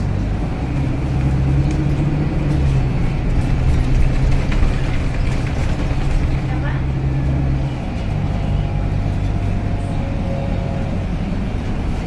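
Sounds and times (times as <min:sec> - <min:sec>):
bus diesel engine humming: 0:00.0 - 0:12.0.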